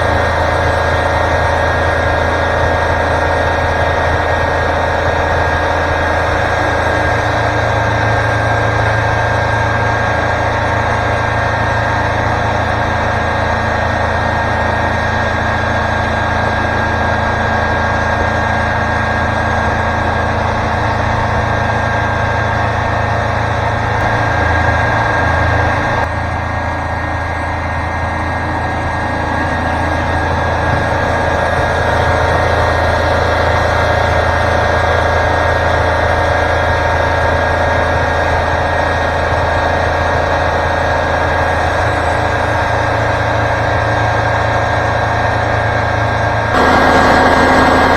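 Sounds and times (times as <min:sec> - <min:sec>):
sawmill machine drone: 0:00.0 - 0:47.9.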